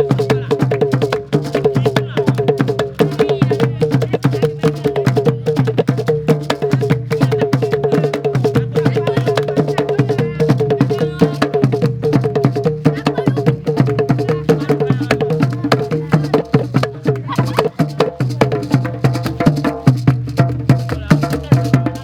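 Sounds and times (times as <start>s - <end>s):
hand drums: 0.0s - 22.0s
talking drum: 0.0s - 22.0s.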